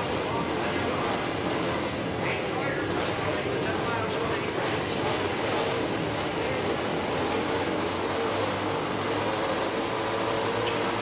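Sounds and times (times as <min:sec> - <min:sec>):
dirt bike engines droning: 0:00.0 - 0:11.0.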